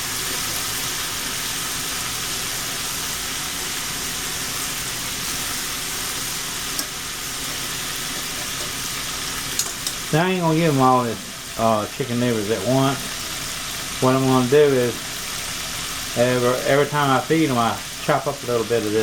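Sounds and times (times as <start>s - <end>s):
chicken livers sizzling in grease: 0.0s - 19.0s.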